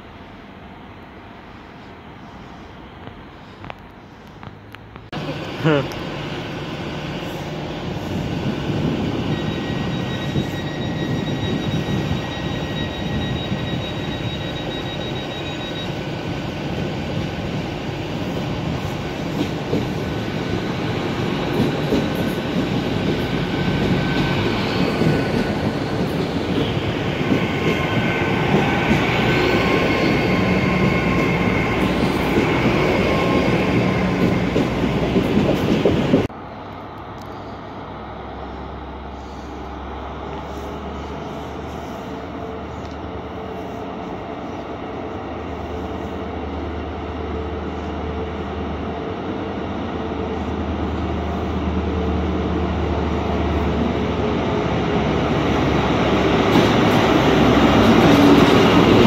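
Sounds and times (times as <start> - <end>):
train wheels rumbling on rails: 1.3 - 59.0.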